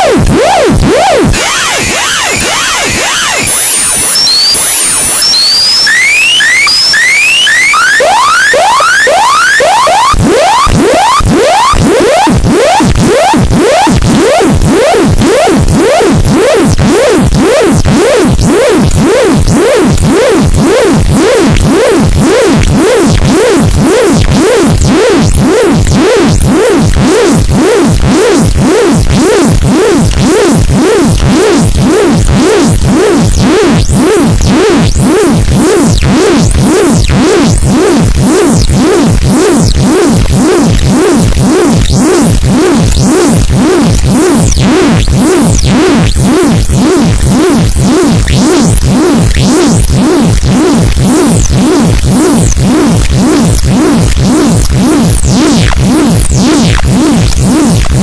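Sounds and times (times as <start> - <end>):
rapid electronic pulses: 0.0 - 58.0.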